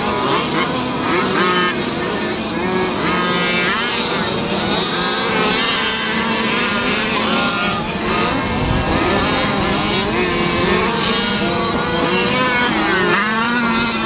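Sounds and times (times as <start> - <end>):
small two-stroke engines revving: 0.0 - 14.0.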